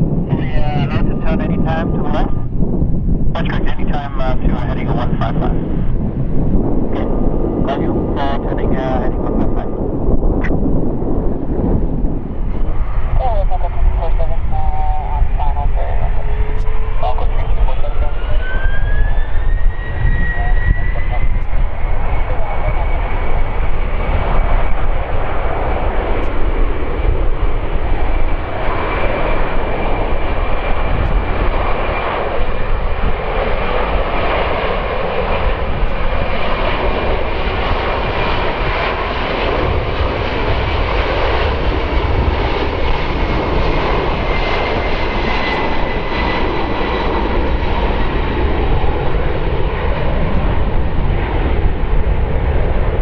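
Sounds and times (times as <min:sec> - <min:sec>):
jet engine rush with whine: 0:00.0 - 0:53.0.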